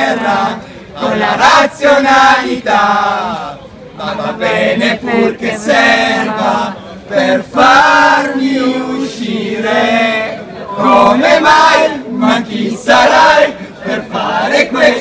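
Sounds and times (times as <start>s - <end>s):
young men chanting together: 0.0s - 15.0s.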